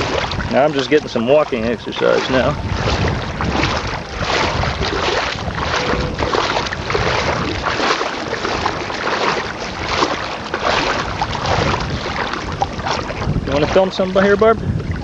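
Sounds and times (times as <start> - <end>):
water splashing from wading: 0.0 - 15.0
wind rumbling on microphone: 0.0 - 15.0.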